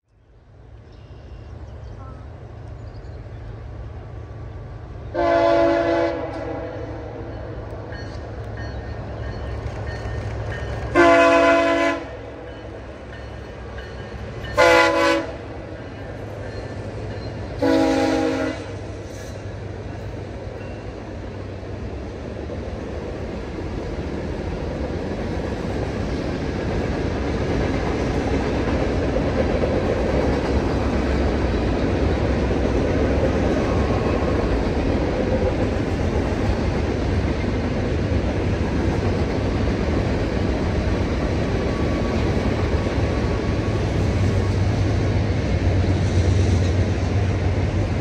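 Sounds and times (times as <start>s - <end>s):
freight train rumble: 0.2s - 48.0s.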